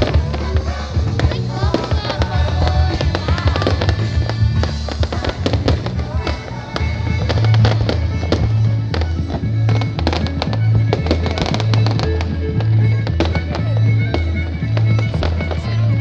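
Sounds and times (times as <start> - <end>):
background music with bass line: 0.0 - 16.0
fireworks popping and banging: 0.0 - 16.0.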